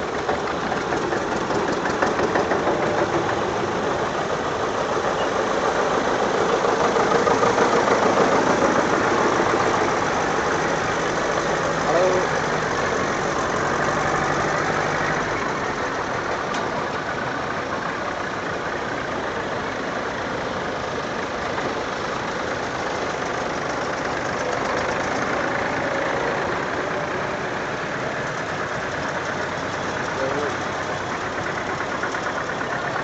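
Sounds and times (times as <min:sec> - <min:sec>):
tractor engines driving past: 0:00.0 - 0:33.0.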